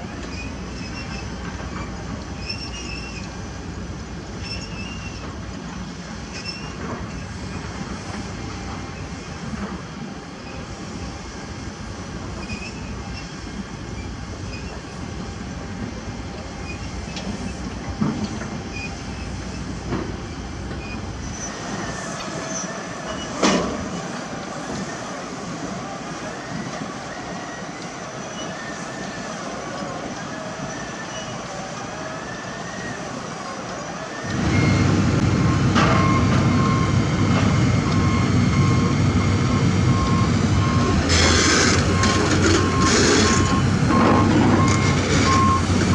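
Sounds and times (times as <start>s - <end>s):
diesel machinery running: 0.0s - 45.9s.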